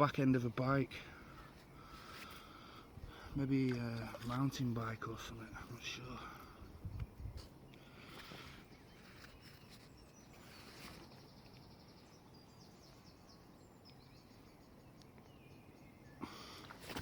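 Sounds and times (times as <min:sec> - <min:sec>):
faint bird chirps: 0:00.0 - 0:17.0
rustle: 0:00.0 - 0:17.0.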